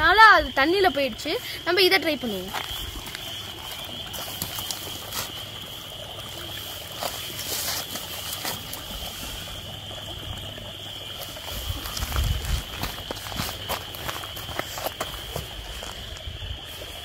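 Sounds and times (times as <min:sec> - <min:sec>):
frogs chorus: 0:00.0 - 0:17.0
stream trickling through pipe: 0:00.0 - 0:17.0.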